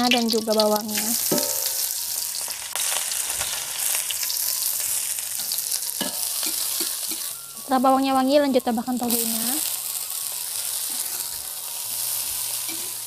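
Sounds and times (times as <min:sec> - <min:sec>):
chilies and onions sizzling in oil: 0:00.0 - 0:13.0.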